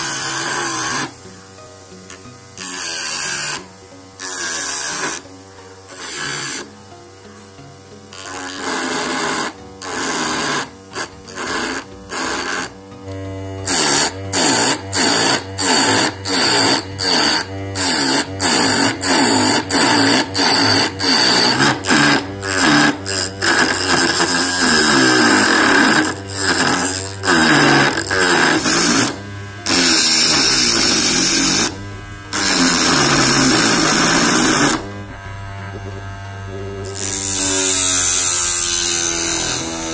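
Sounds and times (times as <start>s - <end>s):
blade scraping wood: 0.0s - 6.8s, 7.4s - 39.9s
lathe motor whining: 0.0s - 39.9s.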